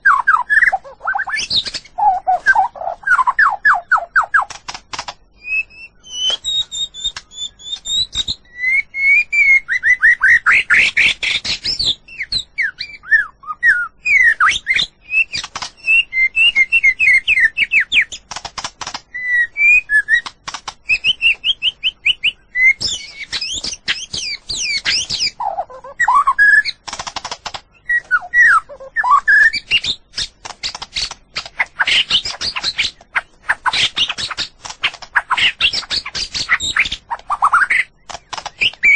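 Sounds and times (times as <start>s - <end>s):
songbird singing varied song: 0.0s - 4.6s, 5.2s - 18.4s, 19.0s - 26.9s, 27.6s - 38.9s.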